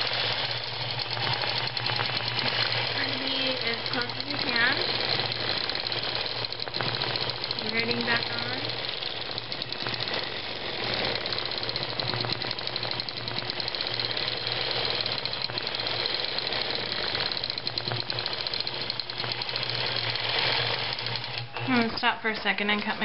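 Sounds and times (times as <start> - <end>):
needle rattling stitches: 0.0 - 22.0
motor hum: 0.0 - 23.0.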